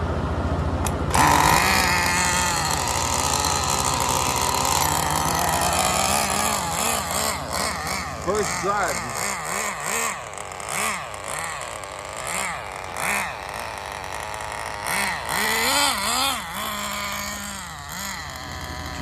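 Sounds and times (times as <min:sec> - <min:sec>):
rc car engine revving: 0:00.6 - 0:19.0.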